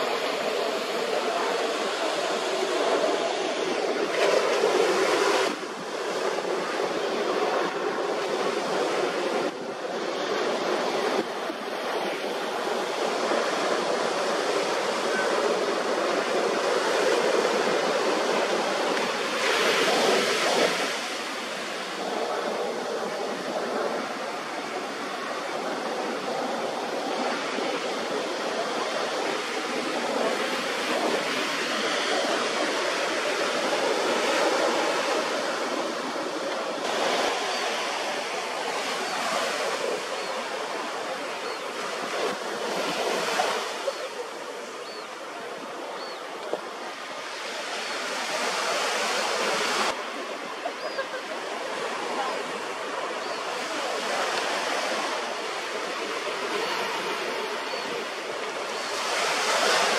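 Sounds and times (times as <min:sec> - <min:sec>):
ocean surf washing onto beach: 0:00.0 - 0:59.9.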